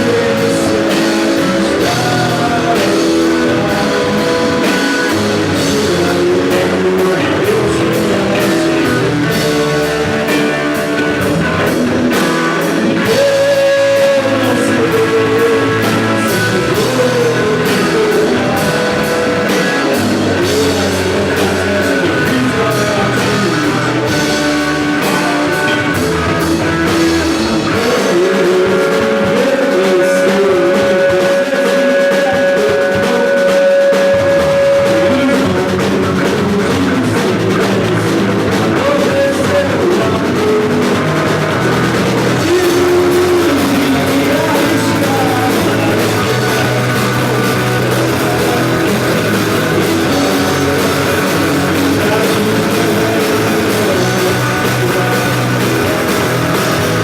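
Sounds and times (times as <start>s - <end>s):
drum kit: 0.0s - 57.0s
guitars: 0.0s - 57.0s.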